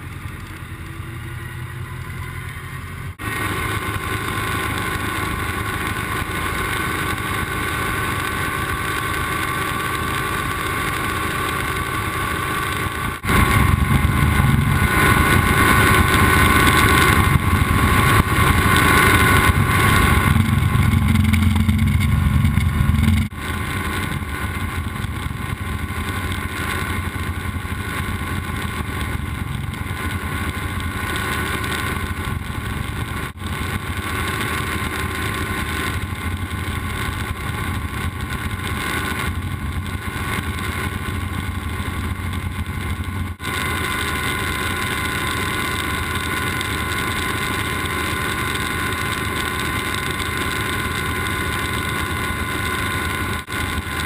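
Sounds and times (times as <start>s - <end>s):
helicopter engine and rotor noise: 0.0s - 54.0s.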